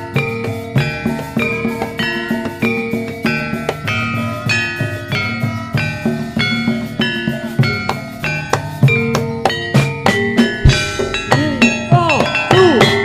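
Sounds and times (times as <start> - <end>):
deep drum strokes: 0.0 - 13.0
metallophones playing pattern: 0.0 - 13.0.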